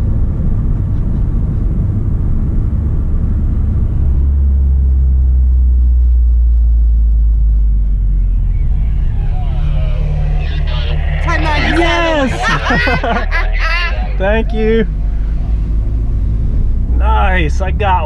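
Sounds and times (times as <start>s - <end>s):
low engine and road rumble: 0.0s - 18.0s
steady low drone: 0.0s - 18.0s.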